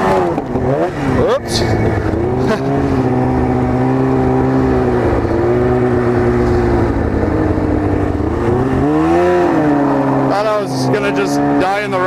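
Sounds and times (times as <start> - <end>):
snowmobile engine running rough: 0.0 - 12.0.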